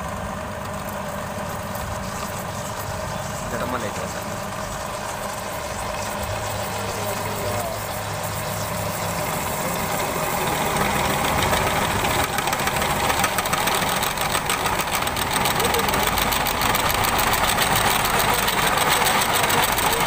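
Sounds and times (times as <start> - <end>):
drill motor running: 0.0 - 20.0.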